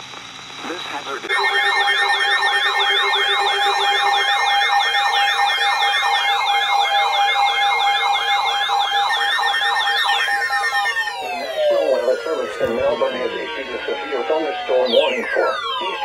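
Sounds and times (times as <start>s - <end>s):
steady electronic tones: 1.3s - 16.0s
weather radio alert siren: 1.3s - 16.0s.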